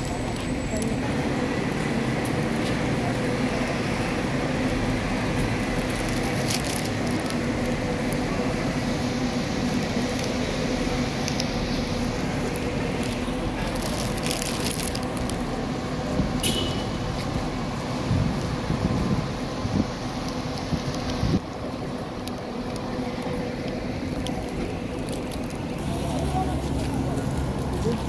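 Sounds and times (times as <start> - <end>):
traffic hum: 0.0 - 28.0.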